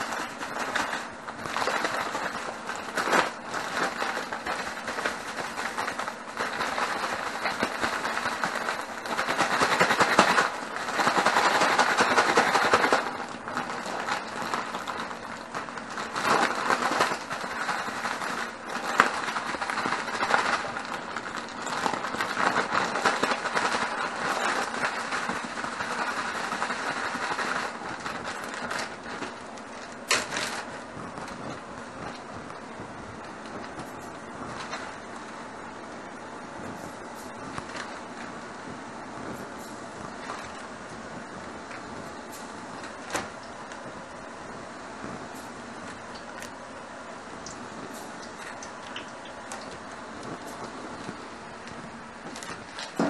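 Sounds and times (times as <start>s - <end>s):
plastic bag crinkling and rustling: 0.0s - 53.0s.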